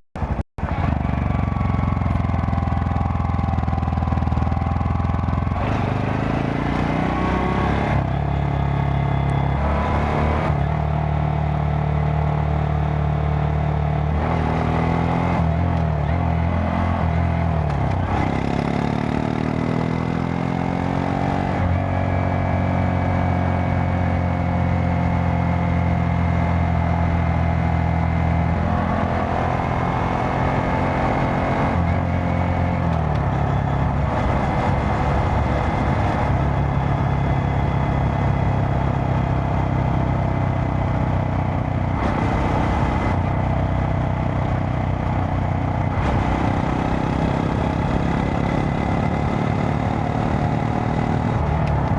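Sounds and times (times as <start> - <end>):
motorcycle engine running: 0.2 - 51.9.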